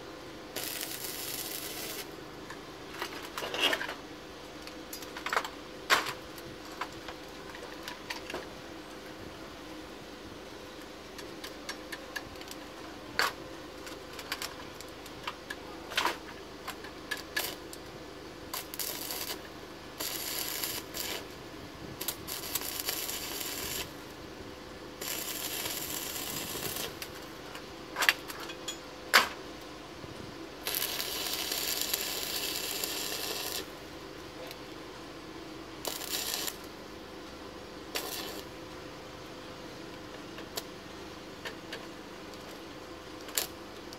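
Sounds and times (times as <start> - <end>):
arc welder crackling hiss: 0.0 - 10.0, 10.7 - 43.9.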